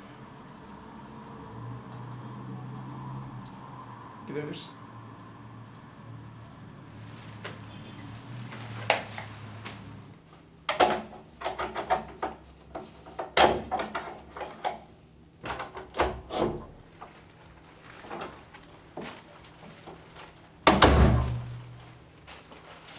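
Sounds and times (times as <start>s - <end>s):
low room hum: 0.0s - 22.9s.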